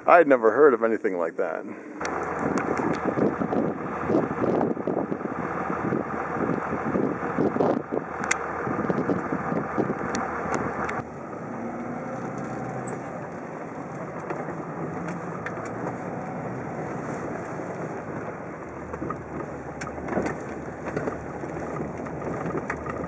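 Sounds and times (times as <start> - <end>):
truck engine and road hum: 0.0 - 23.0
wind buffeting microphone: 2.0 - 23.0.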